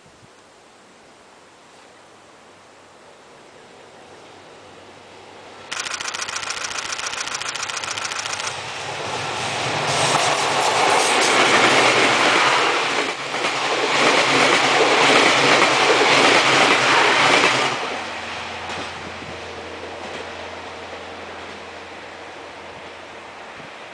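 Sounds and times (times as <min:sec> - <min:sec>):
passenger train passing: 0:03.6 - 0:23.9.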